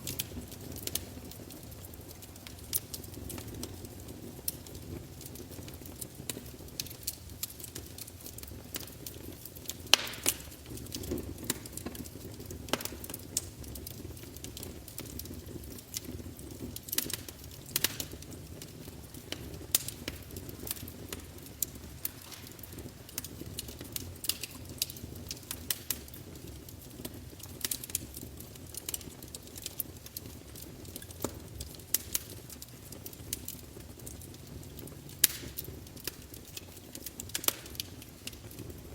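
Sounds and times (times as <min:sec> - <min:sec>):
log fire crackling and popping: 0:00.0 - 0:38.9.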